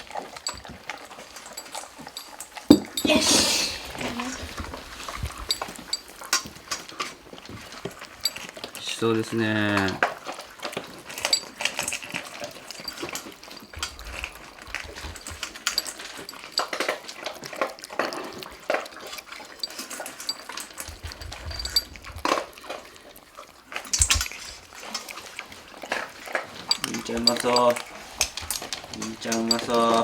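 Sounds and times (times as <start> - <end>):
cats crunching food: 0.0 - 2.7, 3.4 - 30.0
food clicking against bowls: 0.0 - 22.8, 23.7 - 30.0.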